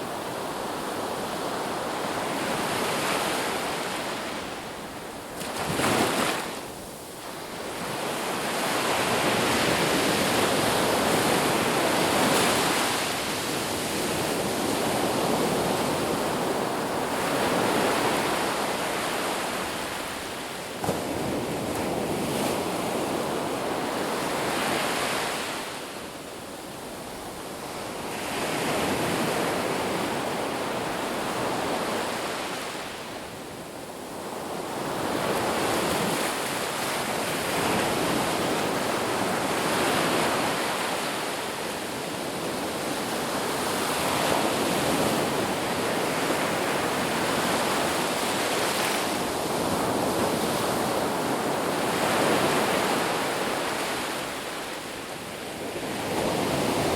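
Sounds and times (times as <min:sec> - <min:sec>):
sea waves breaking on shore: 0:00.0 - 0:56.9.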